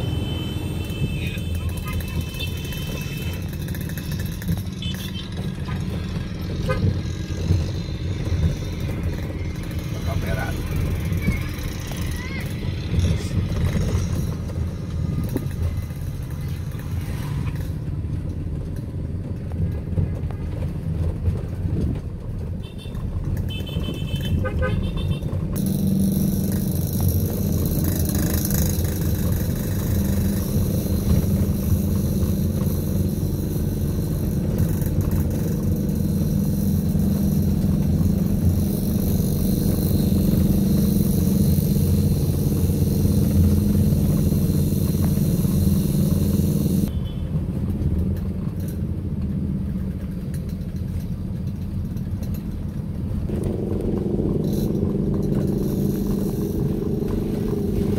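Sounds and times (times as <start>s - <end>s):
motorcycle engine drone: 0.0s - 18.7s, 22.2s - 57.9s
car engine and road noise: 0.0s - 57.9s.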